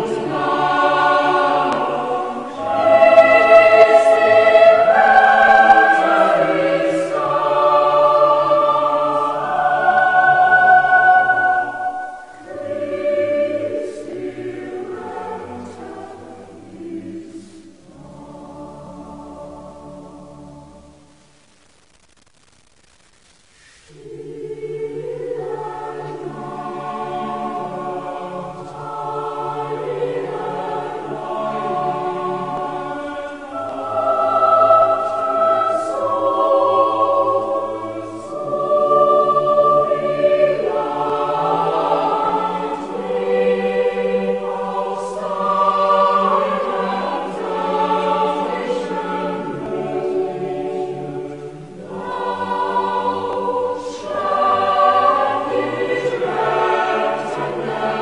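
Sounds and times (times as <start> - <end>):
choir singing held chords: 0.0 - 21.3, 23.9 - 58.0.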